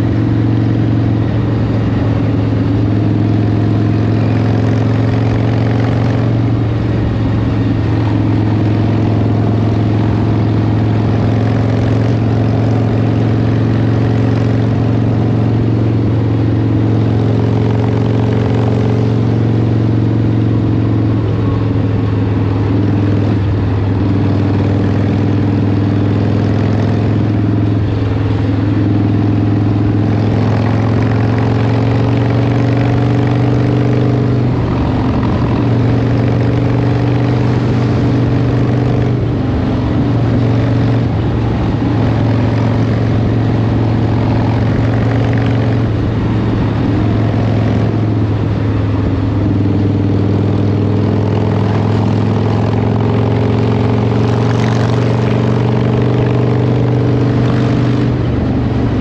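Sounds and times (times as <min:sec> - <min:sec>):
motorcycle engine droning: 0:00.0 - 0:59.0.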